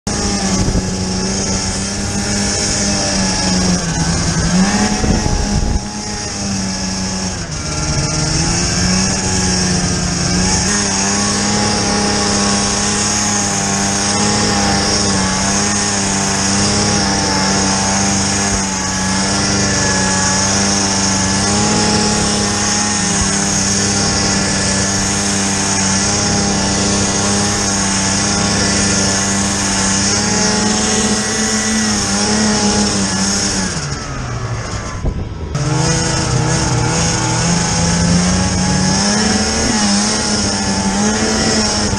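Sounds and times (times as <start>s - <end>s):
snowmobile engine running: 0.0s - 41.9s.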